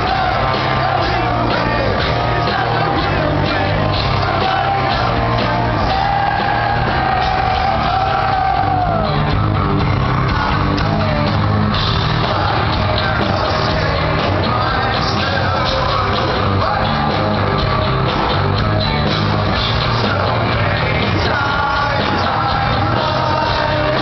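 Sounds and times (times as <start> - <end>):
person singing: 0.0 - 9.3, 12.0 - 17.7, 19.7 - 24.0
hard rock band playing live: 0.0 - 24.0.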